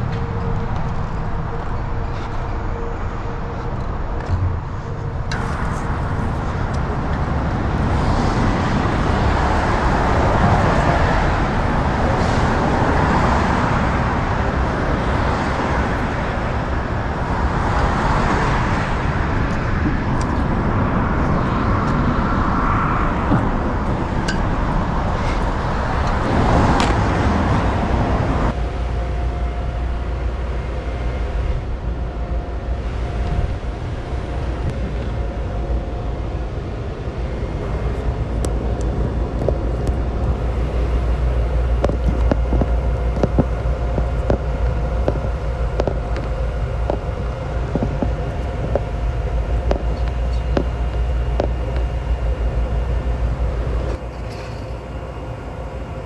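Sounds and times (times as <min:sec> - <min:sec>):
train cars rumbling and humming: 0:00.0 - 0:56.0.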